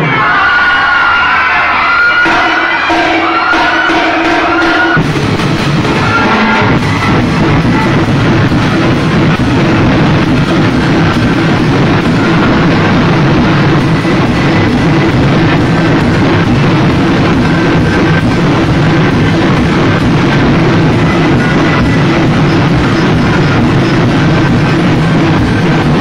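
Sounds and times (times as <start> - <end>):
drums and cymbals dance beat: 2.0 - 26.0.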